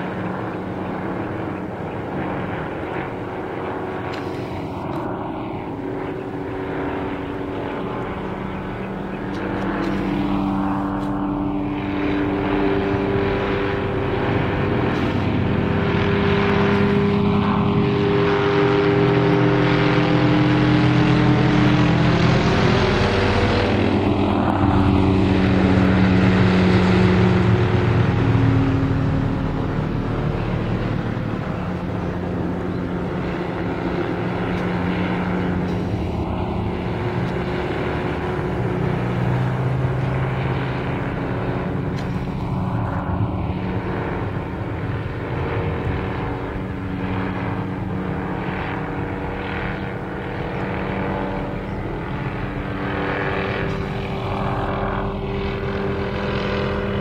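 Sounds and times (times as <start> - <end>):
helicopter rotor drone: 0.0 - 57.0.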